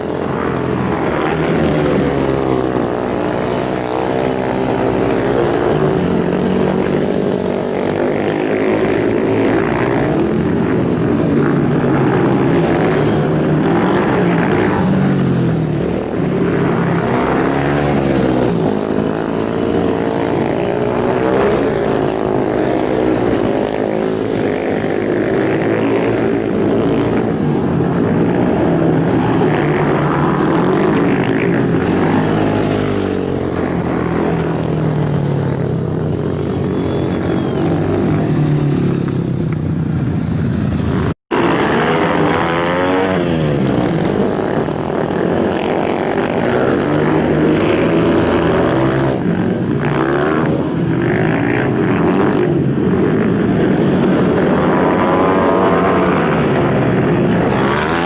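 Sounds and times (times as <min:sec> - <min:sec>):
superbike engines passing: 0:00.0 - 0:58.0.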